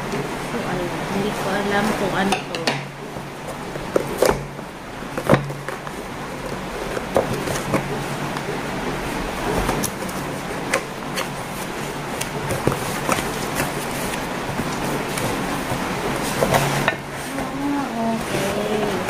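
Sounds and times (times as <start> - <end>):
cardboard and tape rustling: 3.3 - 19.0.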